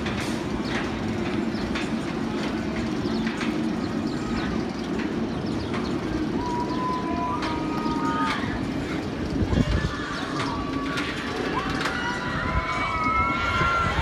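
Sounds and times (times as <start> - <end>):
roller coaster clicks: 0.0 - 14.0
roller coaster train rumbling: 0.0 - 14.0.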